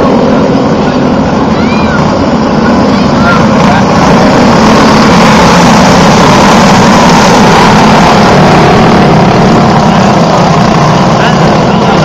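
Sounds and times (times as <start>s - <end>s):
go-kart engines at full throttle: 0.0s - 12.0s.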